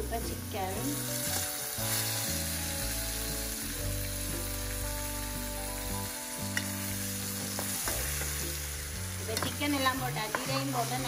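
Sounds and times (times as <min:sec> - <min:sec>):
background music sustained notes: 0:00.0 - 0:11.0
chicken sizzling in hot oil: 0:00.0 - 0:11.0.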